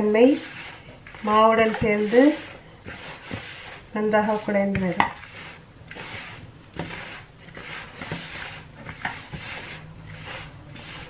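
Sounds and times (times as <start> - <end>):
hand mixing dough in bowl: 0.0 - 11.0.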